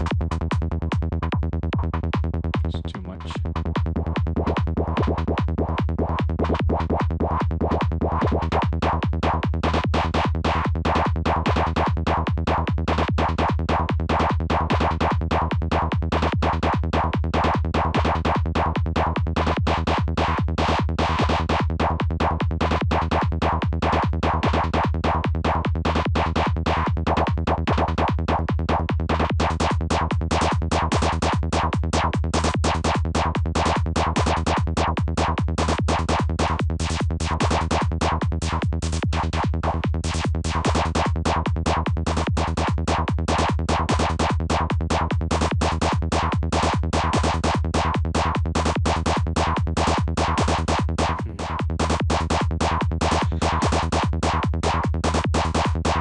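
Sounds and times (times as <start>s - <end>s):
steady low synth bass: 0.0s - 56.0s.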